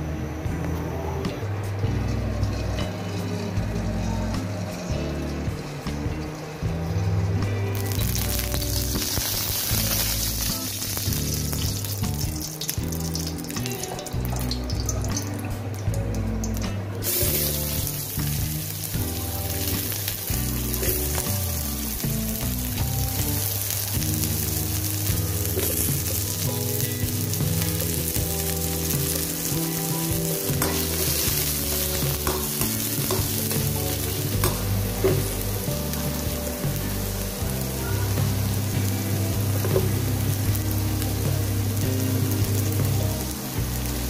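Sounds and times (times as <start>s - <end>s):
onions sizzling in oil: 7.4s - 44.0s.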